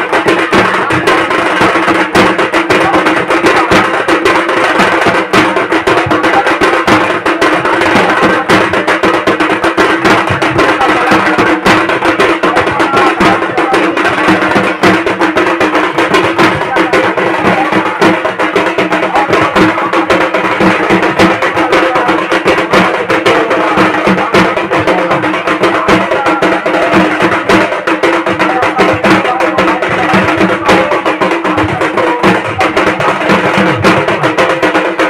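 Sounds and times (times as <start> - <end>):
fast drumming: 0.0 - 35.0.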